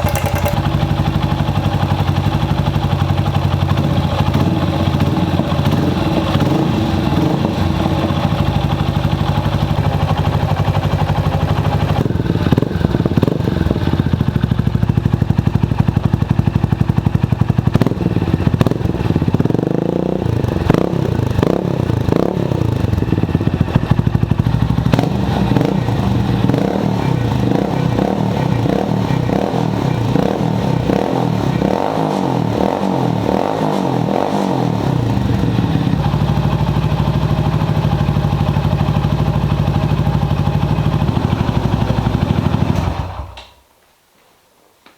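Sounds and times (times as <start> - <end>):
motorcycle engine revving: 0.0 - 43.3.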